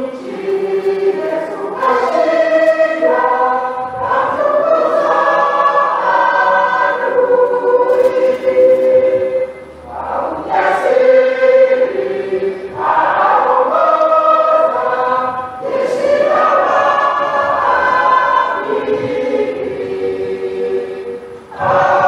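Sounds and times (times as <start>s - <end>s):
choir singing a hymn: 0.0s - 22.0s.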